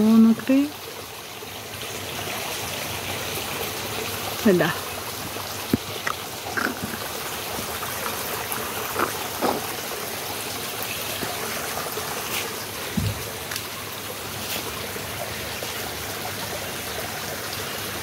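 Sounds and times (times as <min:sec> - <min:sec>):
stream rushing: 0:01.7 - 0:18.0.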